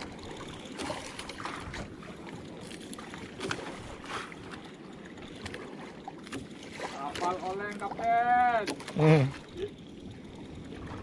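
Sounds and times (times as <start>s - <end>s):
water slapping against boat hull: 0.0s - 9.6s
wind: 0.0s - 11.0s.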